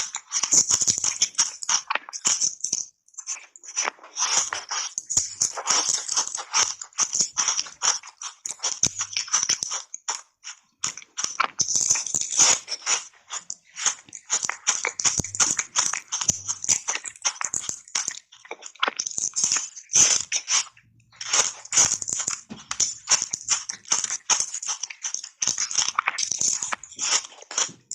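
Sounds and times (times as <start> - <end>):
ice being chewed crunching: 0.0 - 27.9.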